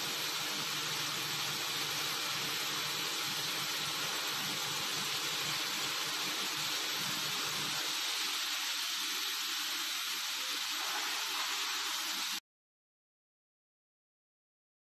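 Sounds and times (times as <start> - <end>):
machine hissing: 0.0 - 12.4.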